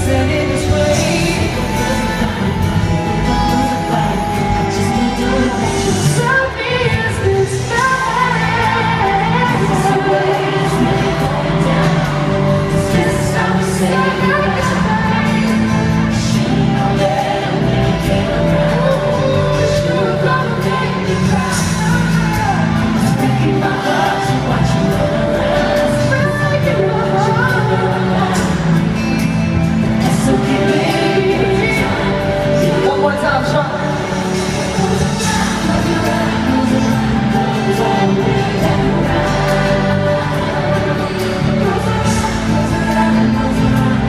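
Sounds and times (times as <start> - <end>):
acoustic guitar and band: 0.0 - 44.0
crowd cheering: 0.0 - 44.0
male voice singing: 0.0 - 44.0.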